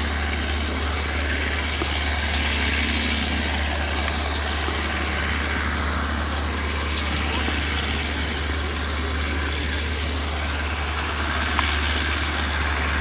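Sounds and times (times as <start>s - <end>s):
harvester engine droning: 0.0s - 13.0s.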